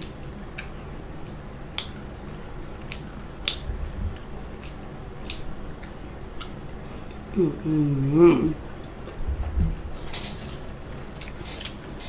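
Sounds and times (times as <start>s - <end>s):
people chewing with mouth smacks: 0.0s - 7.6s, 8.6s - 12.0s.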